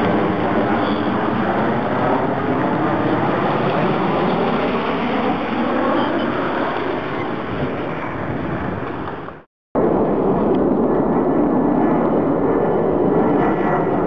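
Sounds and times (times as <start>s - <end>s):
fighter jet flying overhead: 0.0s - 14.0s.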